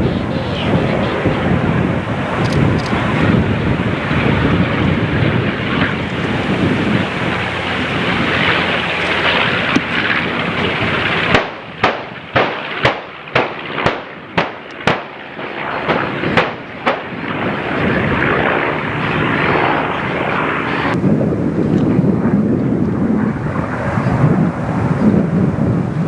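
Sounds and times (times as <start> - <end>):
pyrotechnic bangs: 0.0 - 21.0
aircraft noise: 0.0 - 26.0
wind: 0.0 - 26.0.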